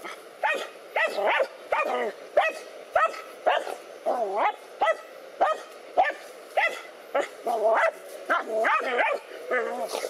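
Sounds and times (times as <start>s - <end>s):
dogs barking: 0.4s - 10.0s.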